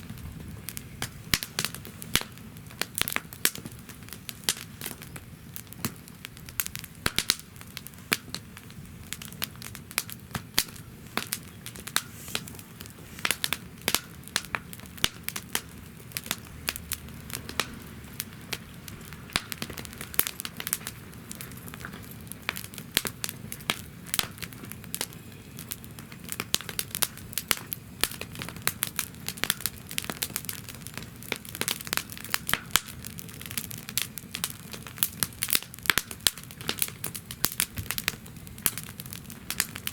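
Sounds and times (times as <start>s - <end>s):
low rush of flame: 0.0s - 39.9s
wood fire crackling and popping: 0.0s - 39.9s.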